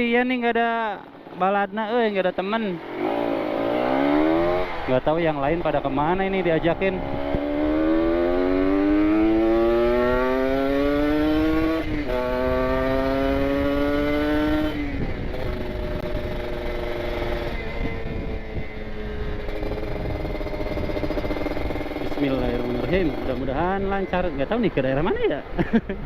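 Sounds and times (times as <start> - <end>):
motorcycle engine accelerating: 2.0 - 26.0.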